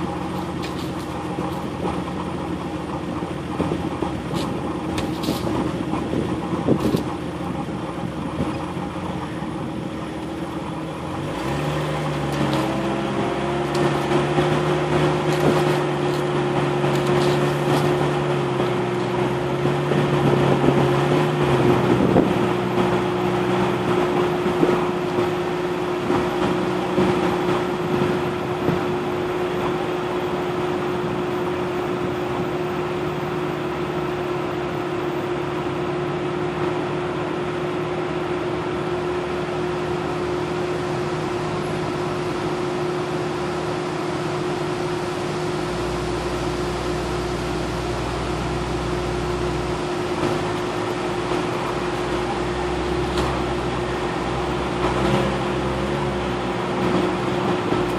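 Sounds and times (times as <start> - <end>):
deeper rumble: 0.0 - 57.9
vehicle engine drone with whine: 0.0 - 57.9.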